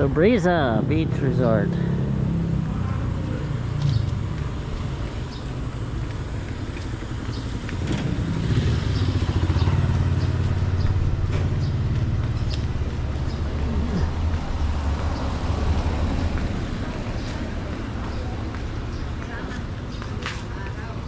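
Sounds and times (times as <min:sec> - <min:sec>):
motor engine running: 0:01.7 - 0:19.5.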